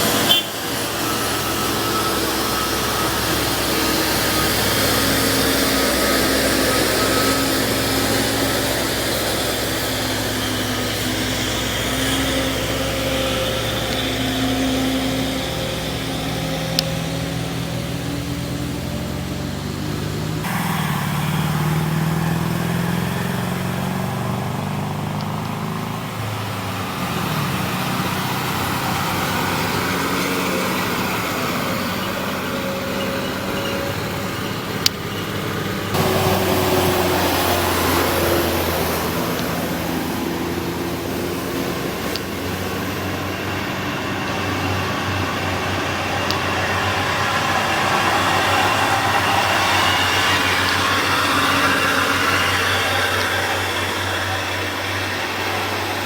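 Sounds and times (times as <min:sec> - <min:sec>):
truck engines under load: 0:00.0 - 0:56.0.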